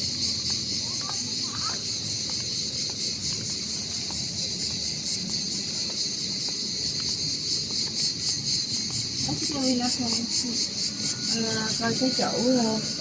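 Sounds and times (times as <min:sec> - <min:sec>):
pulsing insect chorus: 0:00.0 - 0:13.0.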